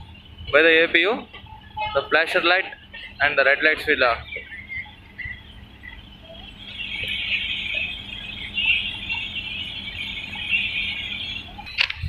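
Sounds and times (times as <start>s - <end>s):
locomotive running gear squealing: 0.0s - 12.0s
low engine hum: 0.0s - 12.0s.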